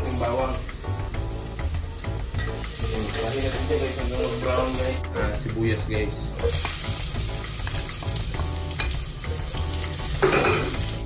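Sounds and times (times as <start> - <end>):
garlic and onion sizzling in oil: 0.0 - 11.0.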